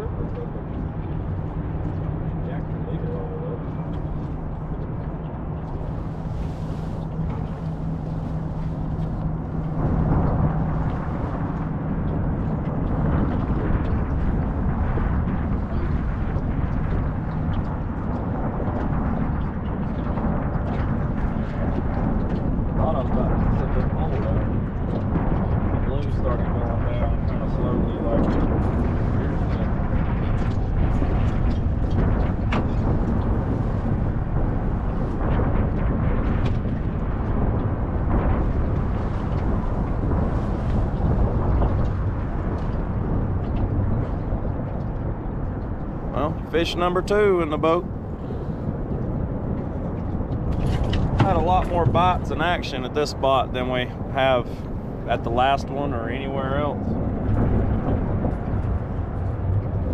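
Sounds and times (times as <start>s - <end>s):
boat motor humming: 0.0s - 59.9s
wind buffeting microphone: 0.0s - 59.9s.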